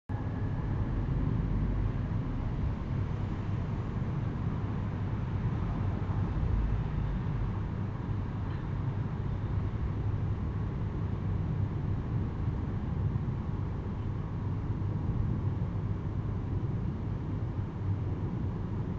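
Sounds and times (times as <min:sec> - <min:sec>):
steady low rumble: 0:00.1 - 0:18.9.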